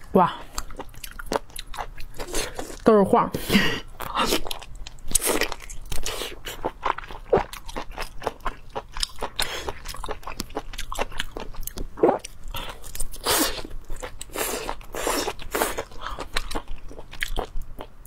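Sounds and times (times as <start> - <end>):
person chewing wet food: 0.0 - 2.9, 3.7 - 18.0.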